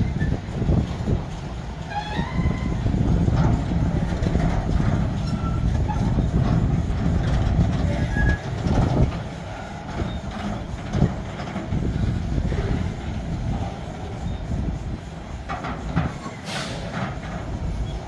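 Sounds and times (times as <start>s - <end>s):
train wheels rumbling on rail: 0.0s - 18.0s
wheels clanking over rail joints: 0.0s - 18.0s.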